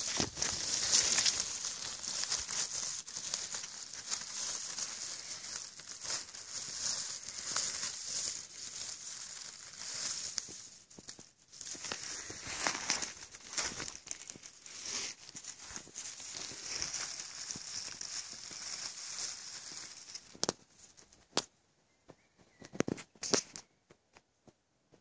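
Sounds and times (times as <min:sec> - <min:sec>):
dry leaves rustling and crinkling: 0:00.0 - 0:21.5.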